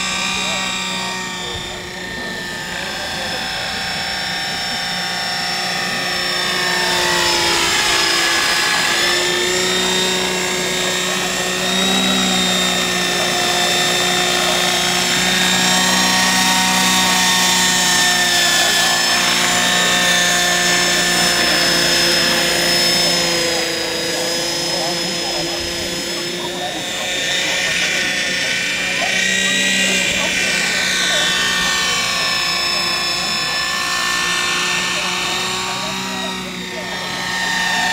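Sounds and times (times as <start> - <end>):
model helicopter rotor whine: 0.0 - 37.9.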